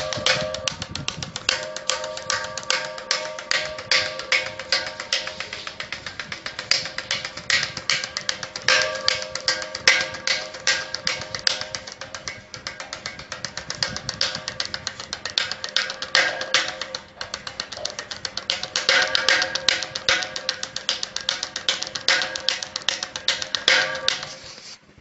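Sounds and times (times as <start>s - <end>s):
hand drumming on notebook: 0.0s - 24.8s.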